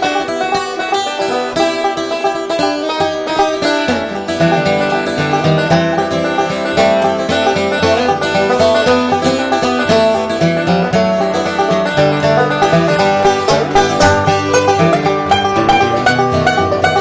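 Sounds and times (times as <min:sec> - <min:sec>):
banjo picking: 0:00.0 - 0:17.0
guitar picking: 0:00.0 - 0:17.0.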